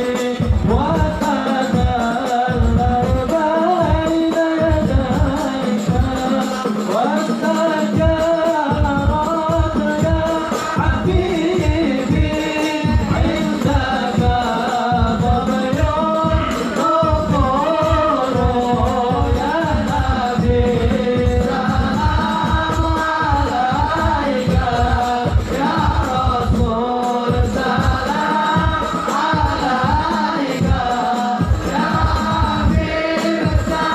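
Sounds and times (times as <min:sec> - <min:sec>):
hand drums beating: 0:00.0 - 0:33.9
men chanting in unison: 0:00.0 - 0:33.9.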